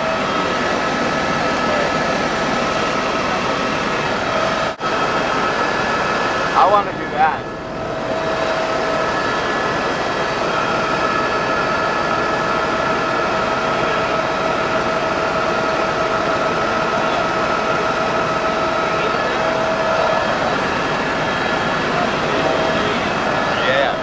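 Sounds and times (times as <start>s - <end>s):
helicopter rotor and engine rush: 0.0s - 24.0s
high whine: 0.0s - 24.0s.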